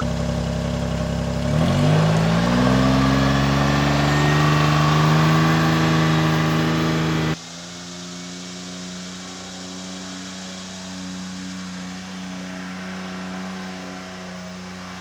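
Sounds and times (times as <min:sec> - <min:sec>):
steady engine hum: 0:00.0 - 0:15.0
utility vehicle engine revving: 0:00.0 - 0:15.0.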